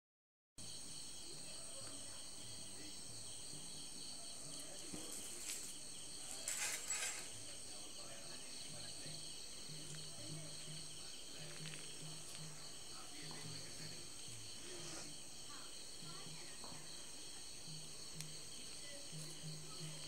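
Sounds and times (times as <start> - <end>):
insects chirring: 0.6 - 20.0.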